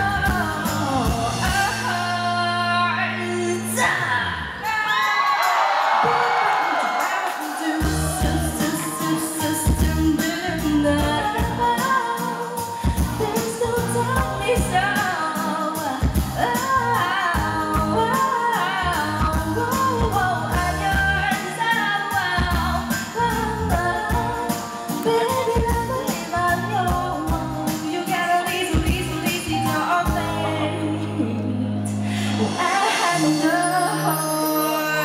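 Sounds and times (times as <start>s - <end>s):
woman singing: 0.0s - 5.0s, 6.0s - 35.0s
live pop band with drums: 0.0s - 35.0s.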